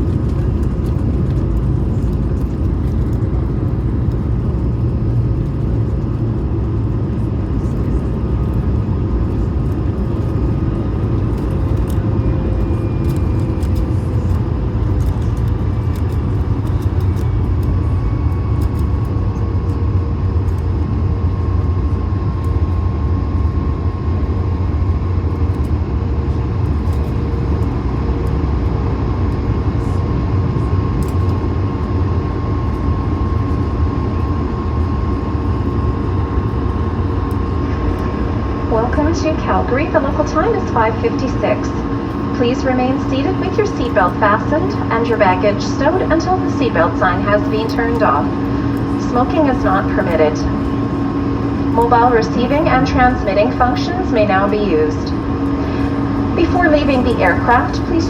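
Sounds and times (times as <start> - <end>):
aircraft cabin rumble: 0.0 - 58.0
jet engine whine: 0.0 - 58.0.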